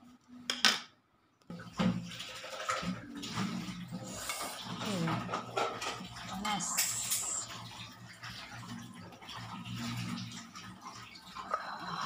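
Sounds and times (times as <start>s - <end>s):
broth sloshing in a pan: 1.5s - 12.0s.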